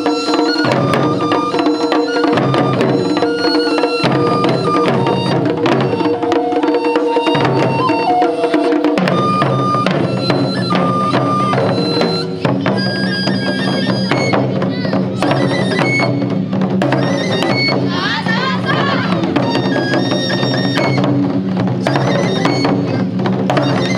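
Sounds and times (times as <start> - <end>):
high wind instrument melody: 0.0 - 23.9
taiko drums striking: 0.0 - 23.9.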